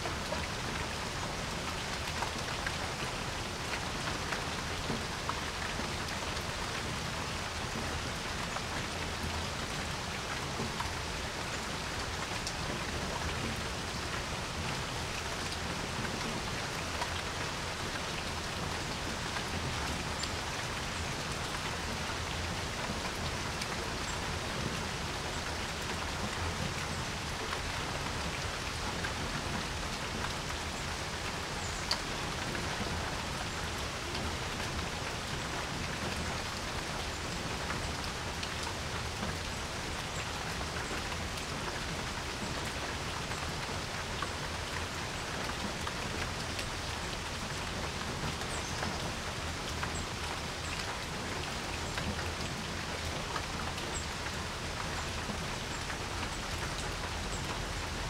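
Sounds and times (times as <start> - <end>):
rain falling on a porch: 0.0 - 58.0.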